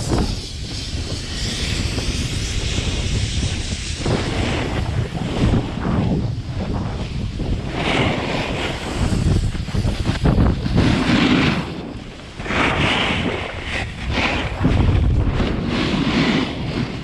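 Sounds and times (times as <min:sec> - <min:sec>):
snowboard scraping across snow: 0:00.0 - 0:17.0
wind buffeting microphone: 0:00.0 - 0:17.0.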